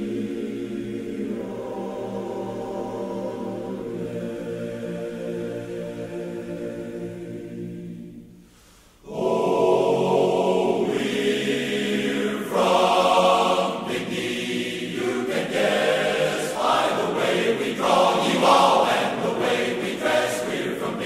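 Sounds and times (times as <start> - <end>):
men's chorus singing: 0.0 - 8.2, 9.0 - 21.0.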